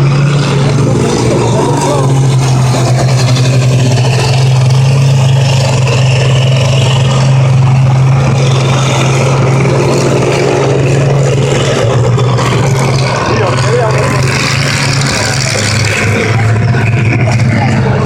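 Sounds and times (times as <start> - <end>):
diesel engine running loud: 0.0 - 18.0.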